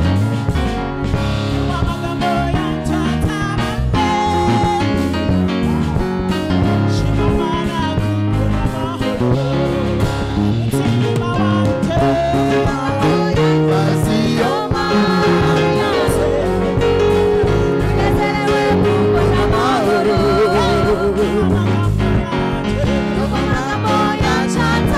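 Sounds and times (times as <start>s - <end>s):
gospel choir singing: 0.0s - 24.9s
instrumental accompaniment with beat: 0.0s - 24.9s.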